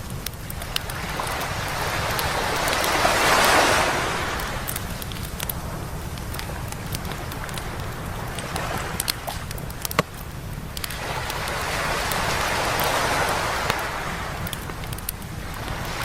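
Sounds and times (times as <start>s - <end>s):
campfire crackling and popping: 0.0s - 16.0s
wave washing up beach: 0.0s - 16.0s.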